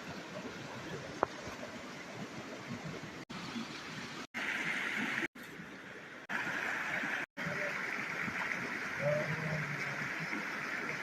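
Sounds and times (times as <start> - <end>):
running stream water hiss: 0.0 - 11.0.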